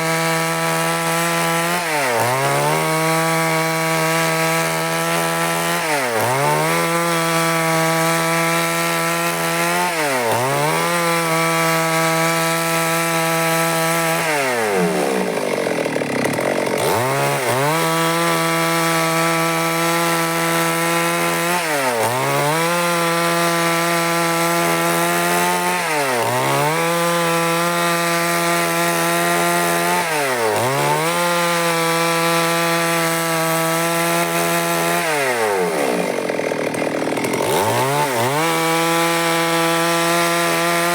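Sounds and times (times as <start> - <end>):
chainsaw sawing wood: 0.0 - 40.9.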